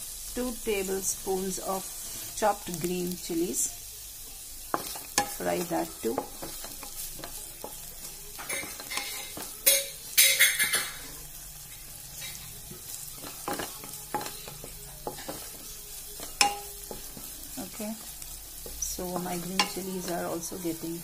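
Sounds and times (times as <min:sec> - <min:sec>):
garlic sizzling in butter: 0:00.0 - 0:21.0.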